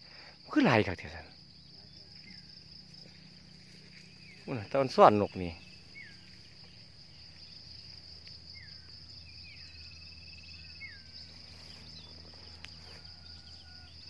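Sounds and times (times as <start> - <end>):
crickets shrilling: 0.0 - 14.0
insect trill: 0.0 - 14.0.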